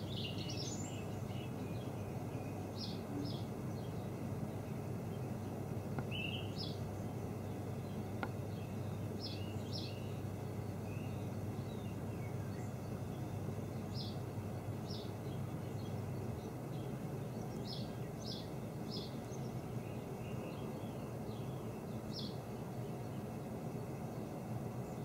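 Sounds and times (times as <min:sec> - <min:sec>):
outdoor background noise: 0:00.0 - 0:25.0
songbird chirping: 0:00.0 - 0:25.0.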